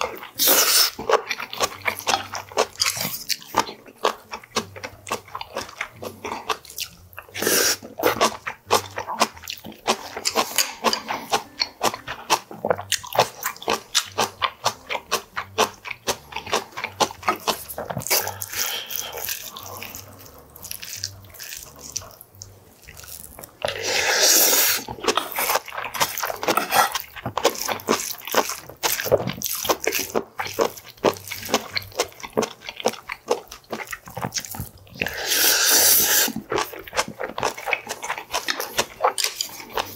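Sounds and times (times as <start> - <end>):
man chewing and lip-smacking: 0.0 - 39.9.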